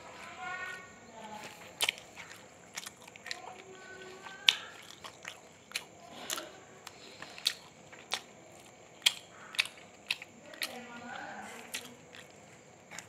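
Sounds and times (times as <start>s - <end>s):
chewing with crunches: 0.0s - 13.0s.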